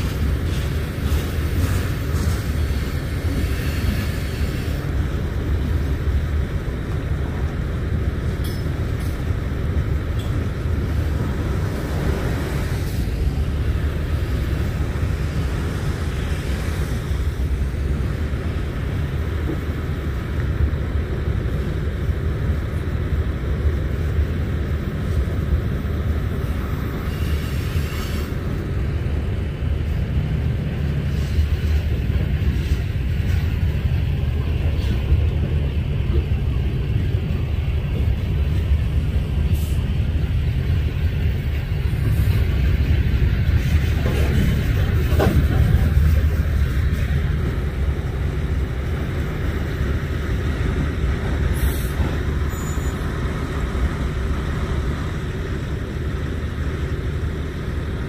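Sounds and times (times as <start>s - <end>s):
freight train cars rolling: 0.0s - 58.0s.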